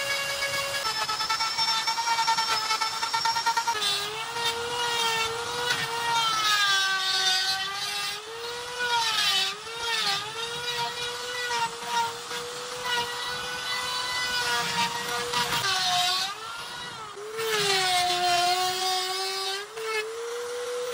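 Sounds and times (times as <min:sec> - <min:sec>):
rotary tool grinding wood: 0:00.0 - 0:20.9.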